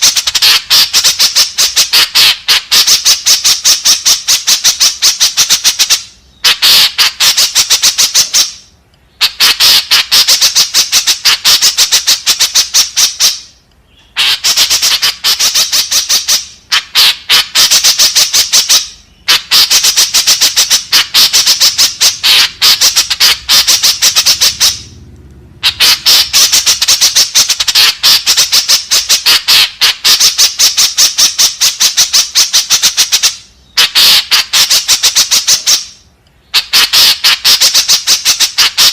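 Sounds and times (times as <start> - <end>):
bird harsh chattering calls: 0.0 - 25.0, 25.6 - 38.9.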